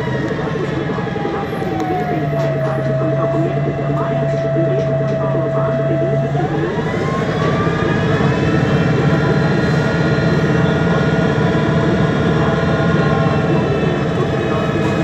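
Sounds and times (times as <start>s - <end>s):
bus engine accelerating: 0.0s - 15.0s.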